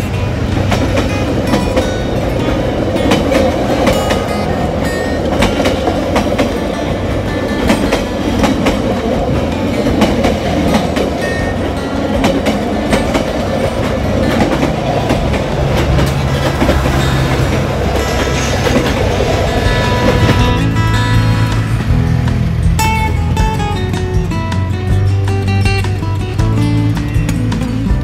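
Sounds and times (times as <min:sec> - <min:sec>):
train wheels clacking over joints: 0:00.0 - 0:27.6
train rumble: 0:00.0 - 0:28.0.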